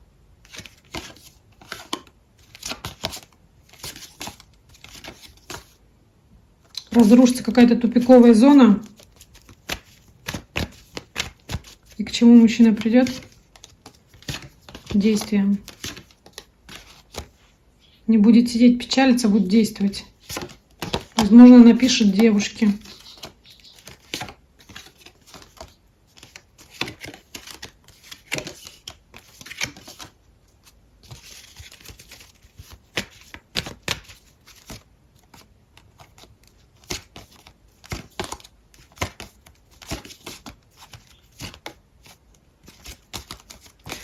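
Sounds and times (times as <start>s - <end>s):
cards being shuffled: 0.4s - 5.8s, 6.7s - 17.4s, 19.1s - 44.0s.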